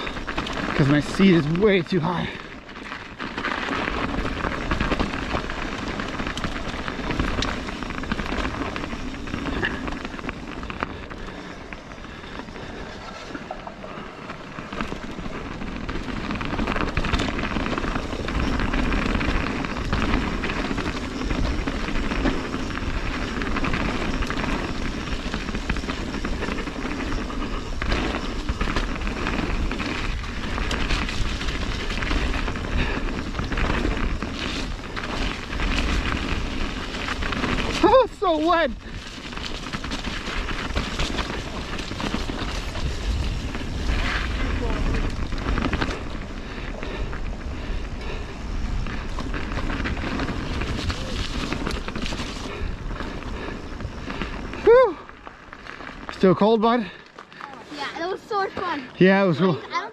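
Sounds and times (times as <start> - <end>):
bike rattling over rough ground: 0.0 - 59.9
bike tyres crunching on dirt: 0.0 - 59.9.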